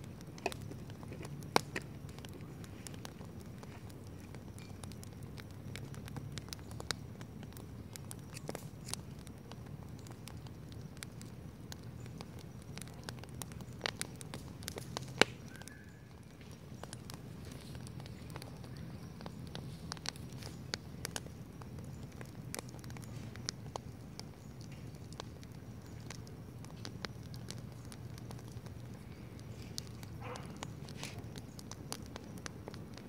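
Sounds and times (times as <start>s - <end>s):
campfire crackling: 0.0s - 33.0s
sharp fire pops: 0.0s - 33.0s.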